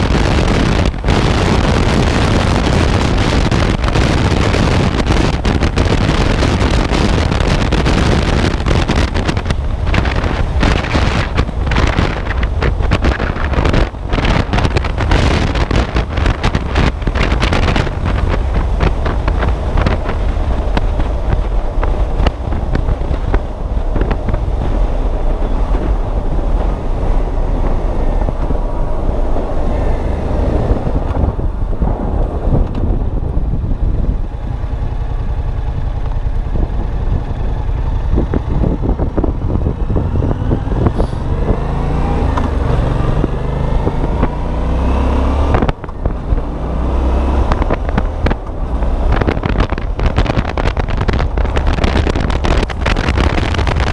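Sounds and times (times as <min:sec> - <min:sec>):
motorcycle engine: 0:00.0 - 0:53.9
wind buffeting microphone: 0:00.0 - 0:53.9.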